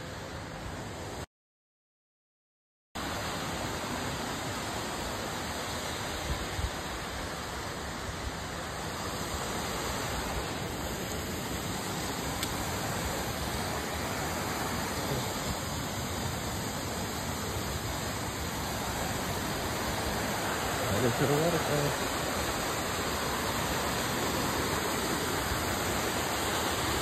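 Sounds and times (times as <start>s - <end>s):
waterfall rushing: 3.0s - 27.0s.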